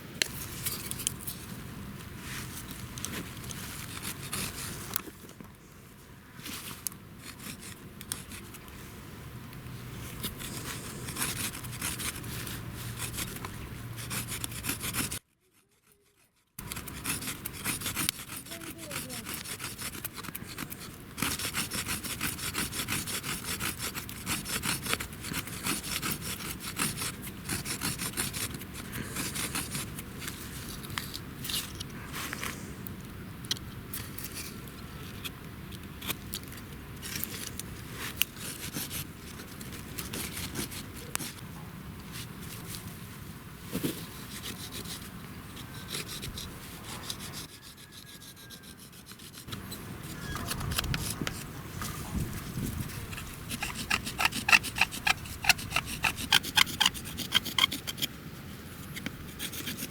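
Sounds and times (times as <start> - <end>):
wooden branch scraping on wood: 2.2 - 5.4, 6.4 - 8.8, 10.0 - 32.7, 33.9 - 41.4, 43.7 - 58.1.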